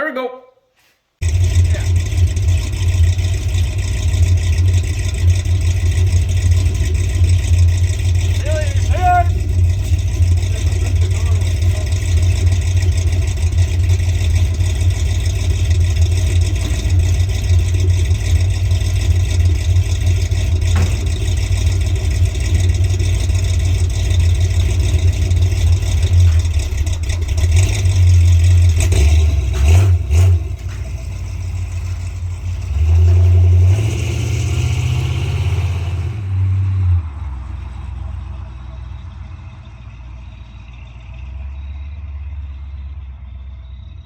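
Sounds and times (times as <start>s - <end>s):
truck engine droning: 1.2s - 44.0s.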